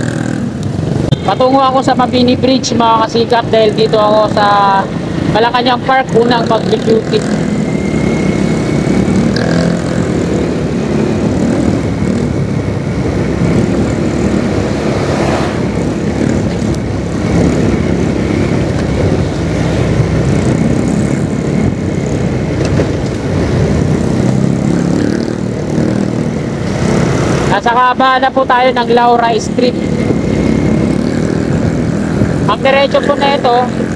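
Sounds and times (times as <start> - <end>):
road noise: 0.0 - 33.9
vehicle engine drone: 0.0 - 33.9.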